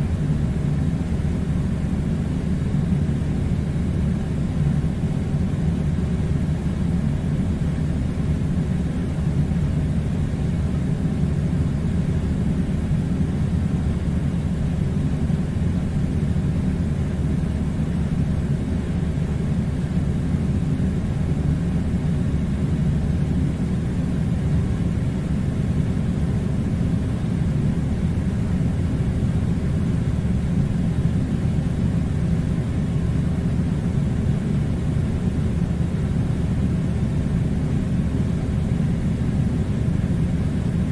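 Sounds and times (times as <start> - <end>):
air conditioner running: 0.0 - 40.9.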